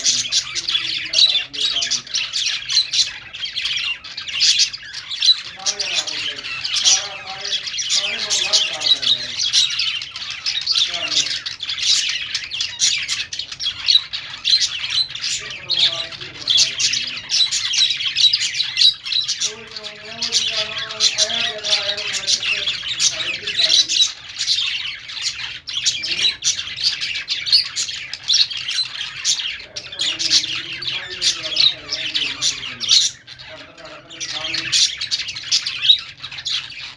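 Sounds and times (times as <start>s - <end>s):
budgerigars chirping and chattering: 0.0s - 36.9s.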